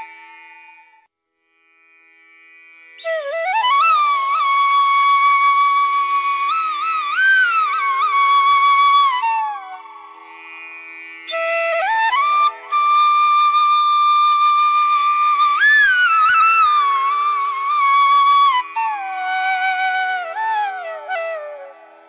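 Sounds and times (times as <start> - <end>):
flute melody: 3.0 - 10.2, 11.3 - 22.0.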